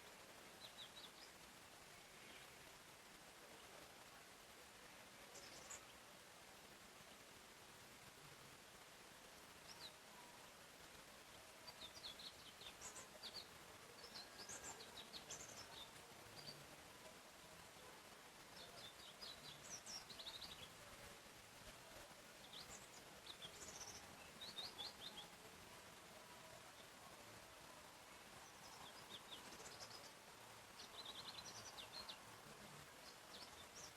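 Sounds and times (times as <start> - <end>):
soft background hiss: 0.0 - 33.9
songbird chirping: 0.0 - 33.9.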